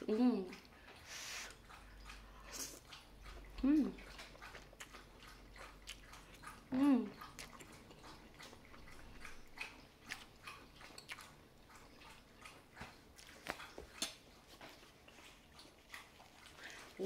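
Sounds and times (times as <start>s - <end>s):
person chewing noodles: 0.0s - 17.0s
wet smacks and mouth clicks: 0.5s - 17.0s.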